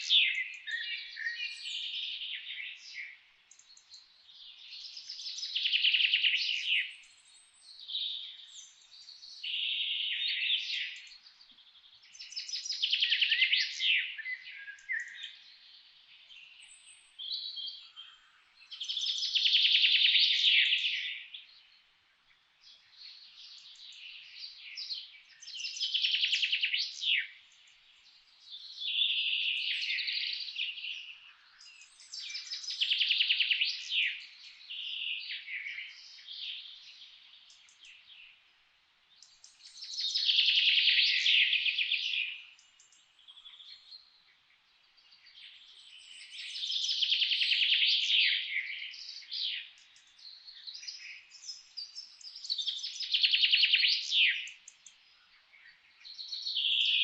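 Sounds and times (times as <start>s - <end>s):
soft bird chirps: 0.0s - 57.0s
songbirds trilling song: 0.0s - 57.0s.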